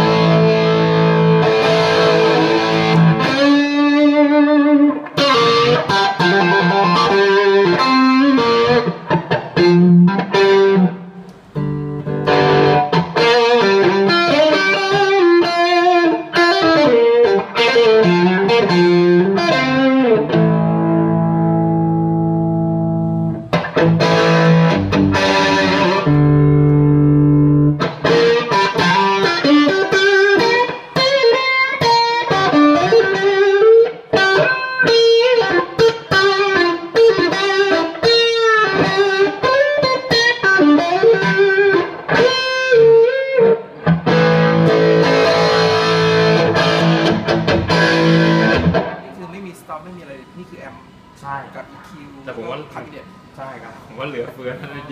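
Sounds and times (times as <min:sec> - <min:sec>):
overdriven electric guitar: 0:00.0 - 0:49.4.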